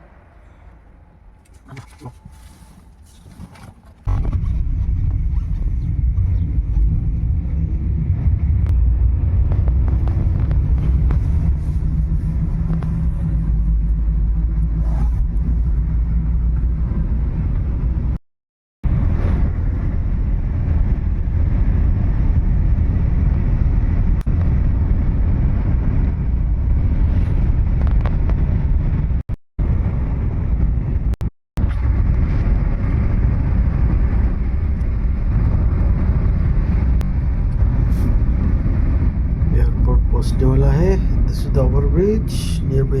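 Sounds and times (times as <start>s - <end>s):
car cabin engine and road rumble: 0.0s - 18.2s, 18.9s - 43.0s.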